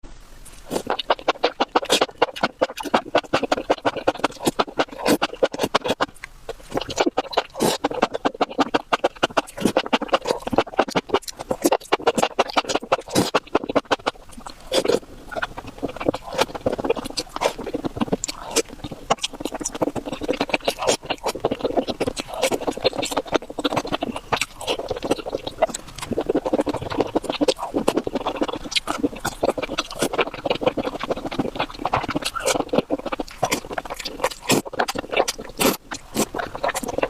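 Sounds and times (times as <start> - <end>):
crunching and chewing: 0.4 - 37.0.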